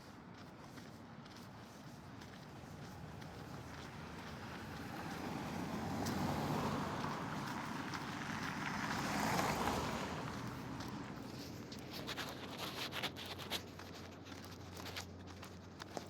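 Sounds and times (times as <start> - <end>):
vehicles passing: 0.3 - 16.0.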